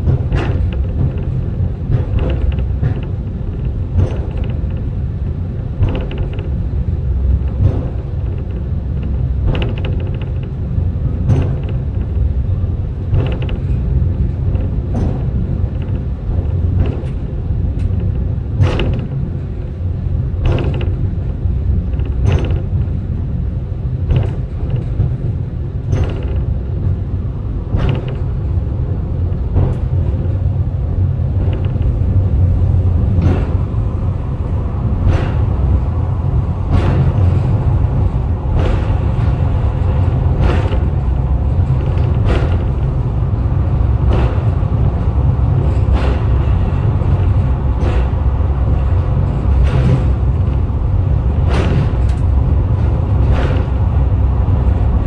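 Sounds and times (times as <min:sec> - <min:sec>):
cable car rumbling: 0:00.0 - 0:55.0.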